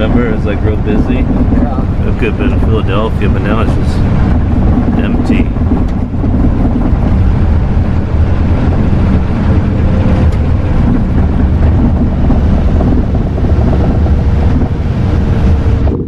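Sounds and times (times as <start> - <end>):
coach engine: 0.0 - 16.0
road noise: 0.0 - 16.0
wind buffeting microphone: 0.0 - 16.0.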